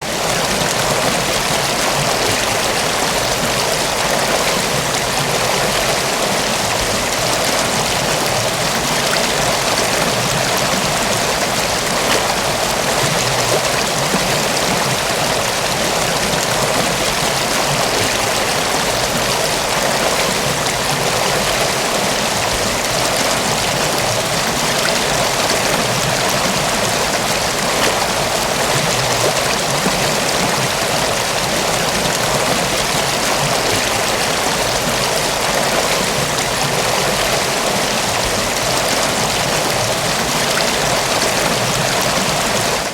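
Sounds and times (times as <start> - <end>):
river water flowing over rocks: 0.0 - 42.9.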